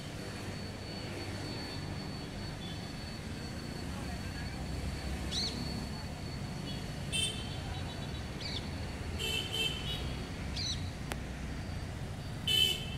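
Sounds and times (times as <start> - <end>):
traffic rumble: 0.0 - 12.9.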